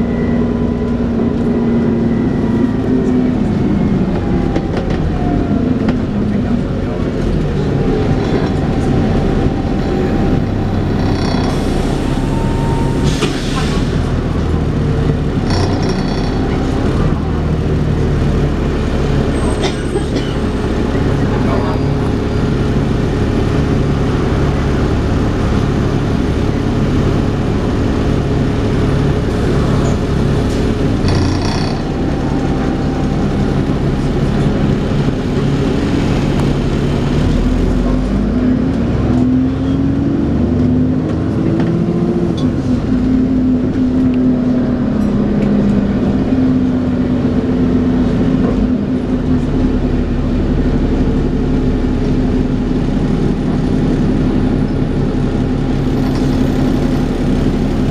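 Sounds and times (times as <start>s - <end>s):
bus engine whine: 0.0s - 57.9s.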